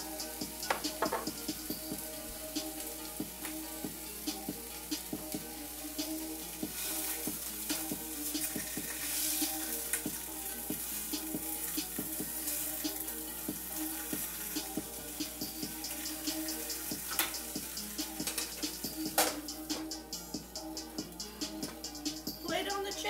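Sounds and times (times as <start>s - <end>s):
food sizzling in frying pan: 0.0s - 22.4s.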